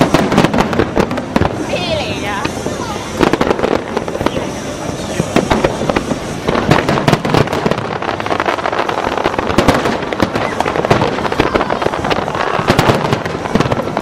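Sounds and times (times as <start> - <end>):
fireworks bursts and crackling: 0.0 - 14.0.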